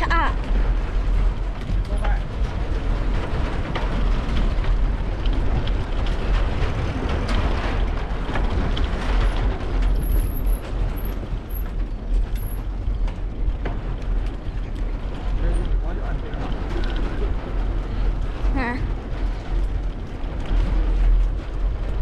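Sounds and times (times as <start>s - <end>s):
wind buffeting microphone: 0.0s - 22.0s
bike tyres on wooden boardwalk: 0.4s - 22.0s.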